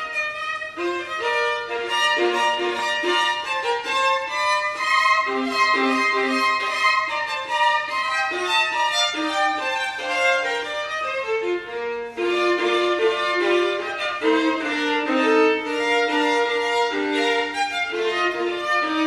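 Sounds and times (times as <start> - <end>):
unaccompanied violin playing: 0.0 - 19.0.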